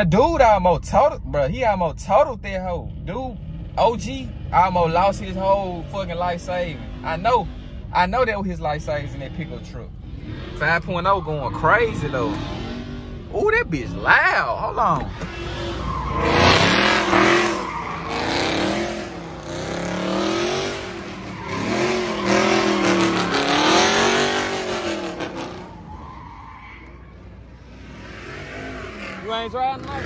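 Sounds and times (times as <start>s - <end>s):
car engine revving: 2.1s - 30.0s
tires squealing: 3.4s - 30.0s.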